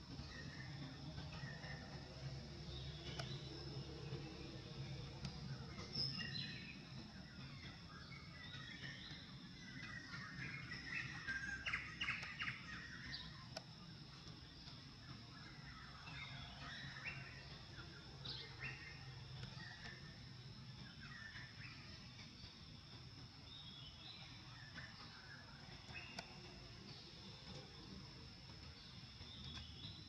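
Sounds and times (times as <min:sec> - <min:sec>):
birds chirping: 0:00.0 - 0:30.0
faint steady high hum: 0:00.0 - 0:30.0.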